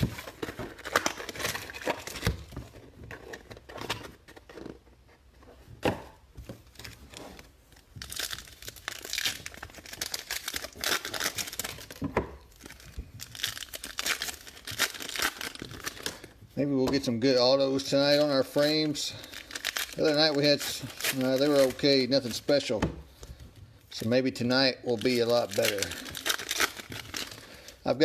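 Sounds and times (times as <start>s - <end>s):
card wrappers tearing and crinkling: 0.0s - 4.8s, 6.6s - 22.8s, 24.0s - 27.8s.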